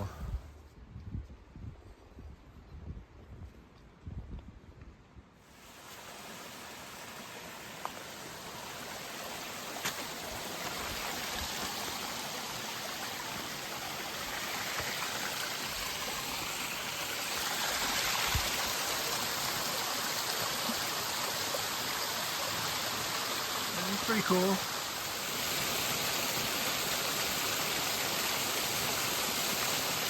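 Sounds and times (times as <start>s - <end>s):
river water rushing: 5.6s - 30.0s.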